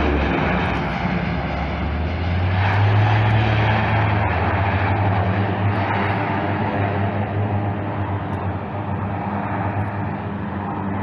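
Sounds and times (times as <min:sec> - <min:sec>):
low hum: 0:00.0 - 0:11.0
turboprop aircraft drone: 0:00.0 - 0:11.0.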